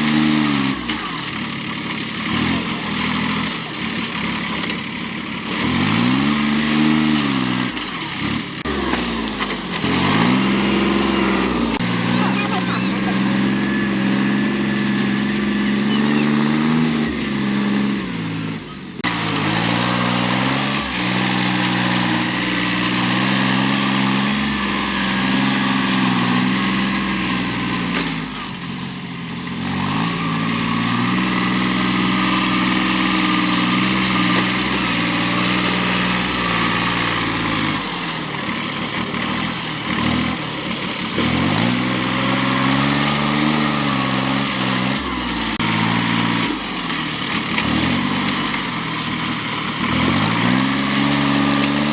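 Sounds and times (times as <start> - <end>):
vehicle engine revving: 0.0 - 28.8, 29.4 - 51.9.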